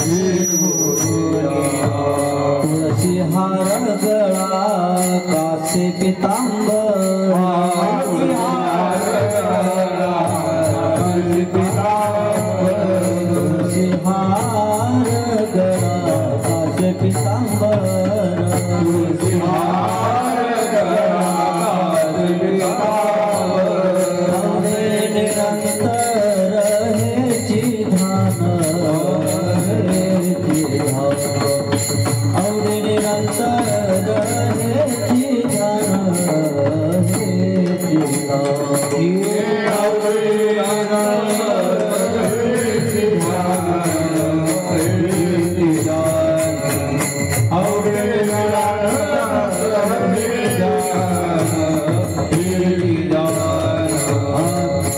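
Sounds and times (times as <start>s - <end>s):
jingling cymbals: 0.0s - 54.9s
person singing devotional song: 0.0s - 54.9s
sustained accompaniment: 0.0s - 54.9s.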